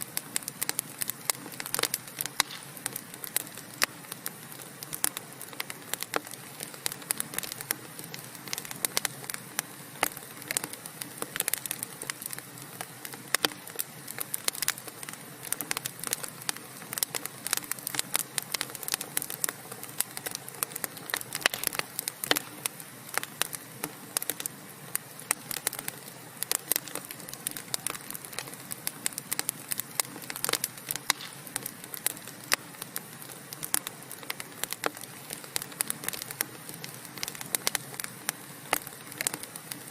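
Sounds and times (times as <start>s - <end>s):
soft fire hiss: 0.0s - 39.9s
wood fire crackling and popping: 0.0s - 39.9s.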